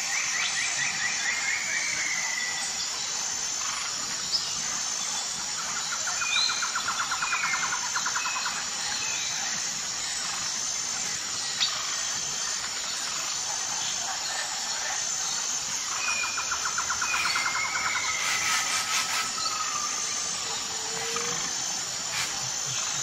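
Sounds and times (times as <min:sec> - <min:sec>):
high insect hum: 0:00.0 - 0:23.0.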